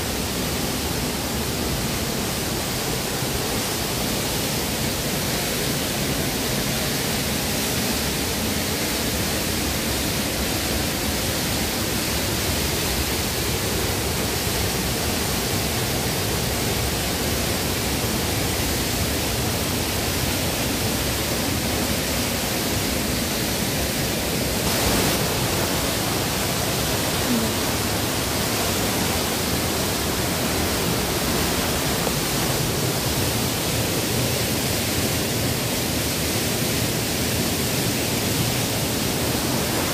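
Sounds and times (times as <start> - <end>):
river water over rocks: 0.0 - 39.9
waterfall rushing: 0.0 - 39.9.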